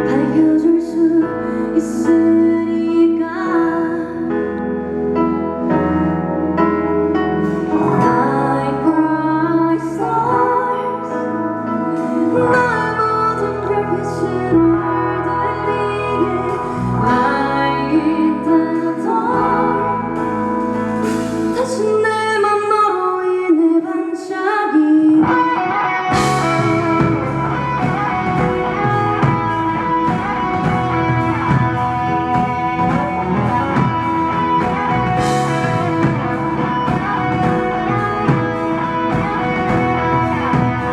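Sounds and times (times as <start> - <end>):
woman singing: 0.0 - 4.8, 7.8 - 40.9
bass guitar: 0.0 - 22.9, 25.2 - 40.9
drums: 0.0 - 40.9
electric guitar: 0.0 - 40.9
keyboard: 0.0 - 40.9.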